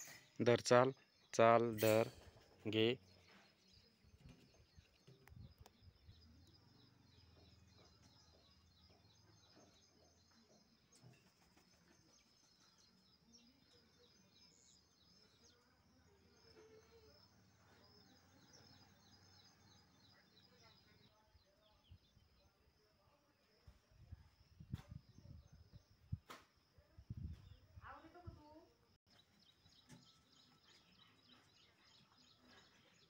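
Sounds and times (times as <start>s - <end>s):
distant bird chirps: 0.0s - 22.6s, 27.2s - 33.0s.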